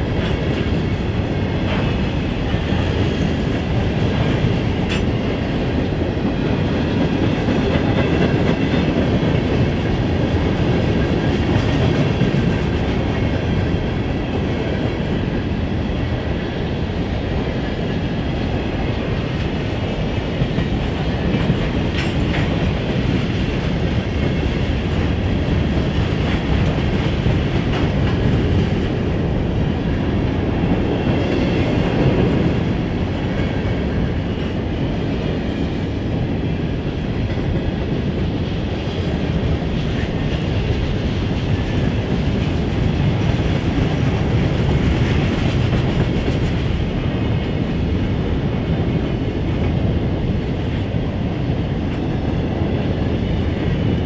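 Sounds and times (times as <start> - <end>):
freight train cars rolling: 0.0 - 54.0.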